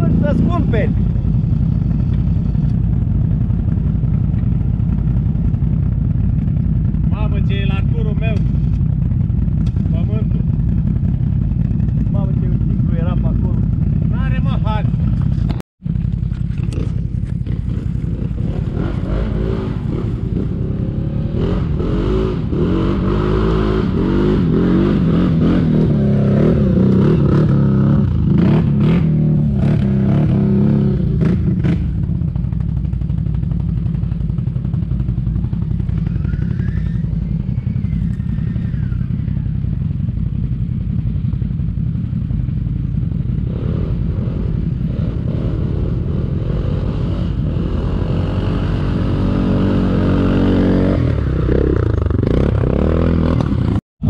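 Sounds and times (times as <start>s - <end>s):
atv engine revving: 0.0s - 53.8s.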